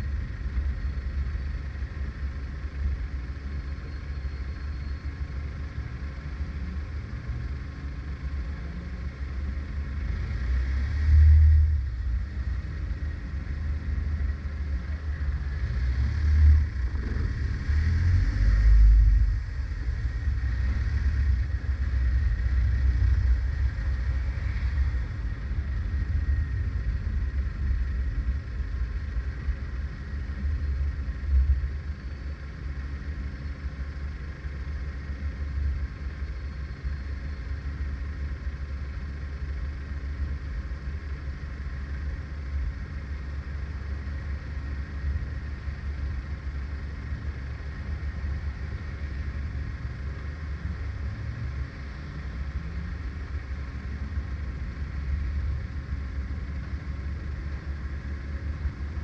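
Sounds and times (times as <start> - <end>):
car rumbling in traffic: 0.0 - 59.0.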